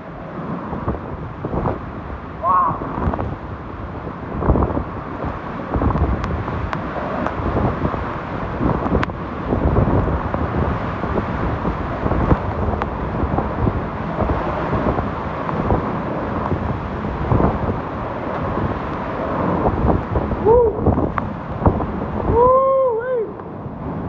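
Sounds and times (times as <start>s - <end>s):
strong wind gusting: 0.0s - 24.0s.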